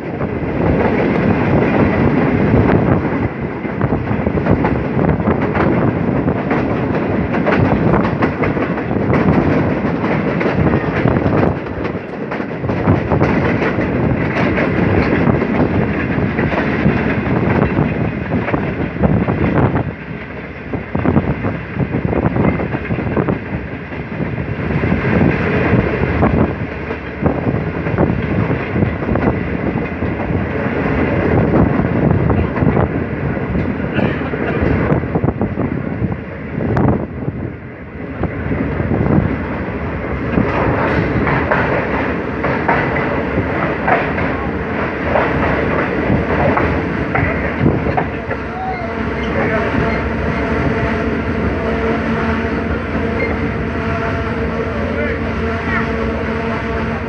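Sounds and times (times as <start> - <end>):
train wheels clattering over rail joints: 0.0 - 37.2, 38.1 - 48.4
train rolling rumble: 0.0 - 57.0.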